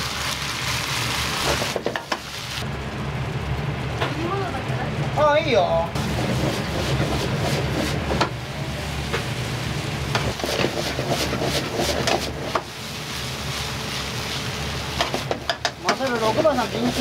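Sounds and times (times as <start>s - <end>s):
sizzling in wok: 0.0s - 5.2s, 5.9s - 17.0s
low rumble of burner: 0.0s - 17.0s.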